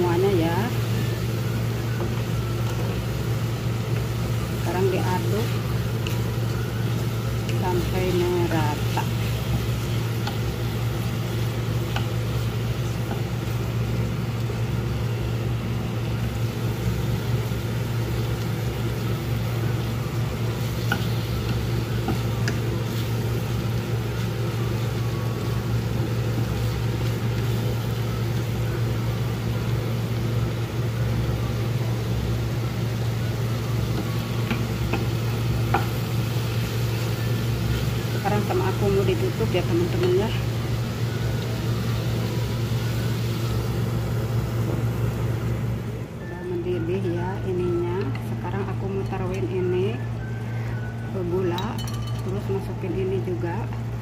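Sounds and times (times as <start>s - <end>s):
food sizzling in a frying pan: 0.0s - 54.0s
low machine hum: 0.0s - 54.0s.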